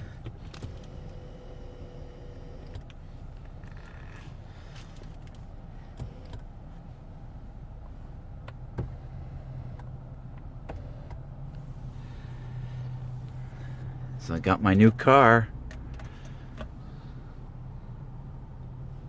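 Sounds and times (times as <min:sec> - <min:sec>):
low rumble inside car: 0:00.0 - 0:19.0
steady low hum: 0:00.0 - 0:19.0.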